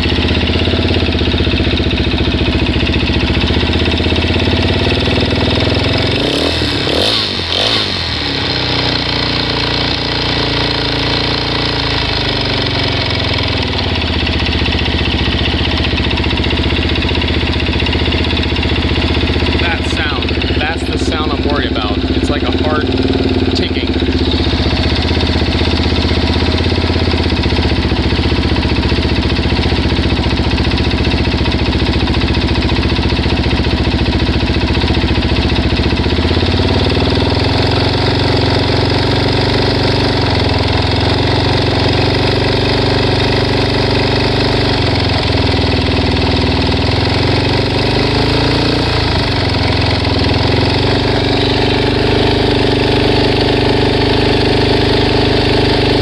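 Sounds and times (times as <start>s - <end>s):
engine ticking: 0.0s - 56.0s
motorcycle engine idling: 0.0s - 56.0s.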